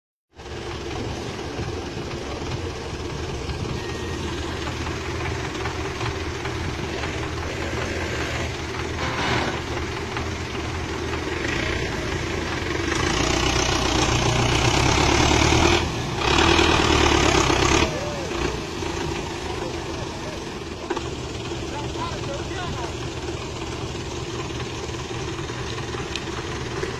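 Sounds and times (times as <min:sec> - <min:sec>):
tractor diesel engines straining: 0:00.4 - 0:26.9.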